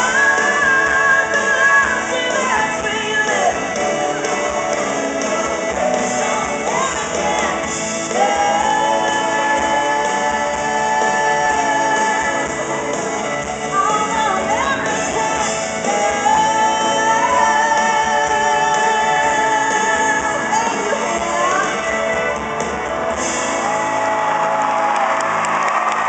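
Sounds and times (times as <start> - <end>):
woman singing: 0.0 - 4.6, 5.2 - 13.0, 13.6 - 22.4
country-pop band playing: 0.0 - 26.0.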